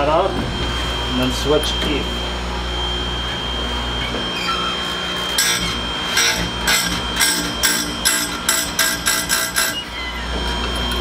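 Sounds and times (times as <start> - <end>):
chain grinder humming and whining: 0.0 - 11.0.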